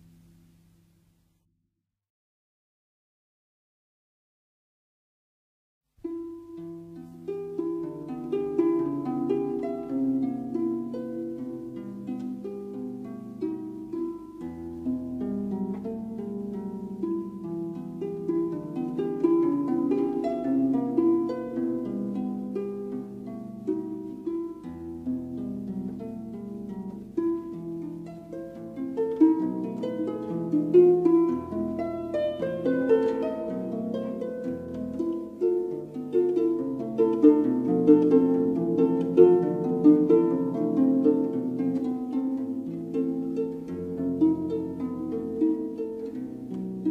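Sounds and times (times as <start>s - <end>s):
plucked string melody: 6.0s - 46.9s.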